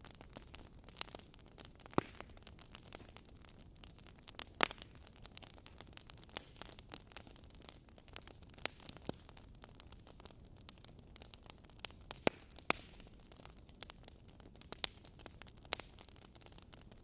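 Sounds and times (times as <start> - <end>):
faint steady hiss: 0.0 - 17.0
wood fire crackling: 0.0 - 17.0.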